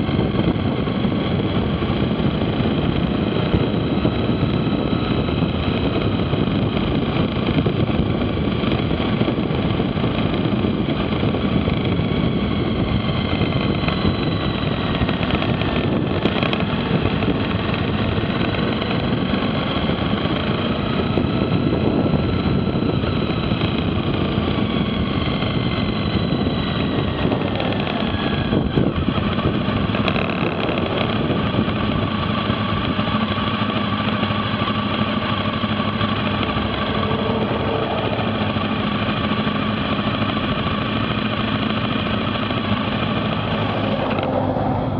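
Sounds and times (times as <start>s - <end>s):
motorcycle engine slowing: 0.0s - 44.9s
wind rush: 0.0s - 44.9s.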